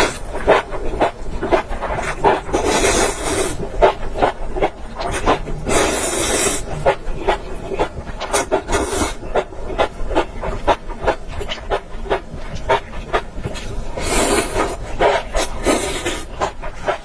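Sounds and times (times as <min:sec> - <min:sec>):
slurping: 0:00.0 - 0:17.0
wet chewing and smacking: 0:00.0 - 0:17.0.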